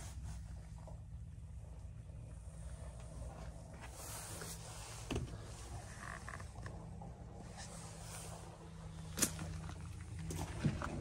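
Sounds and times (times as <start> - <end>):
faint creaks and scrapes: 0.0 - 11.0
low steady hum: 0.0 - 11.0.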